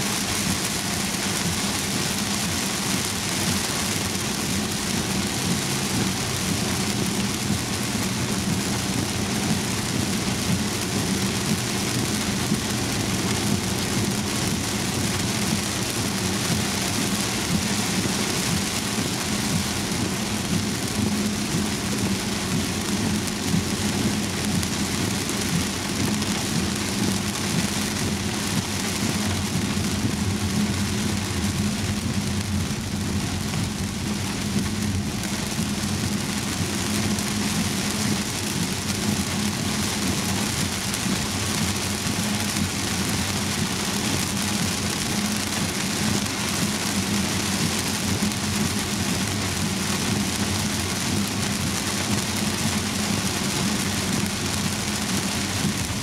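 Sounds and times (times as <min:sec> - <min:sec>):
heavy rain on a car: 0:00.0 - 0:56.0
tyres droning on wet road: 0:00.0 - 0:56.0.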